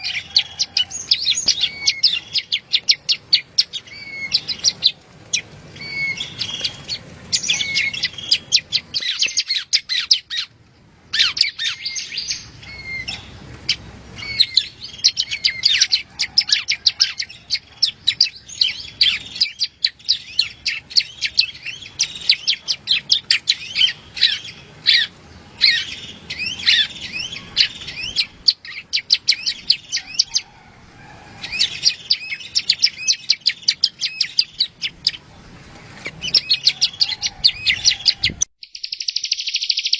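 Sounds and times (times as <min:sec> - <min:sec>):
bird singing high chirps and trills: 0:00.0 - 0:30.5, 0:31.4 - 0:35.4, 0:36.0 - 0:39.9.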